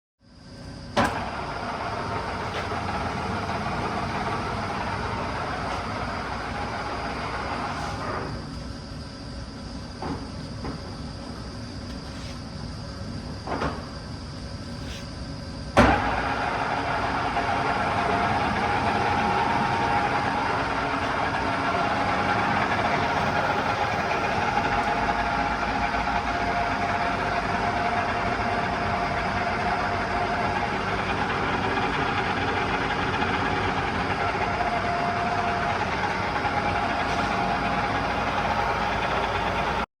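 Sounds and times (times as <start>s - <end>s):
lathe running with a whine: 0.6s - 13.2s, 15.8s - 39.9s.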